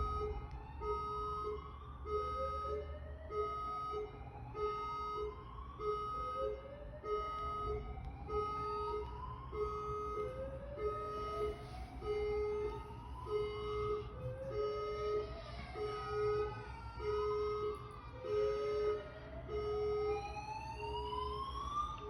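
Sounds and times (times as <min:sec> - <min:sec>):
rising siren sweep: 0:00.0 - 0:22.0
two-tone siren: 0:00.0 - 0:22.0.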